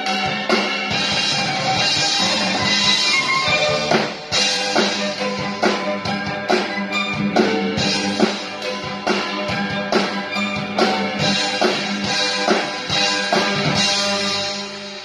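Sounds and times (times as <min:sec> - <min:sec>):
drum kit steady beat: 0:00.0 - 0:15.0
sustained instrumental notes: 0:00.0 - 0:15.0.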